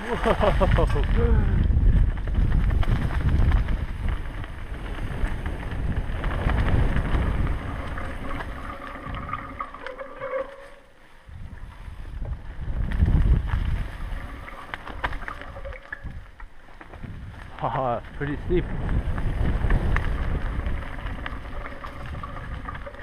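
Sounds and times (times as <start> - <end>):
bike rattling: 0.0 - 23.0
bike tyres rumbling on dirt: 0.0 - 23.0
wind on microphone: 0.0 - 23.0.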